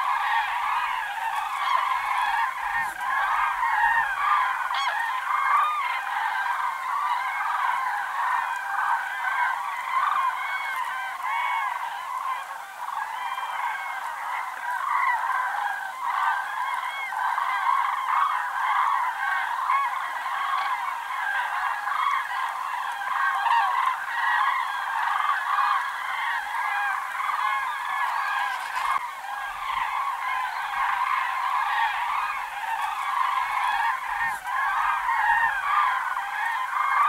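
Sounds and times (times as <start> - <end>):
flock of cranes calling: 0.0 - 37.0.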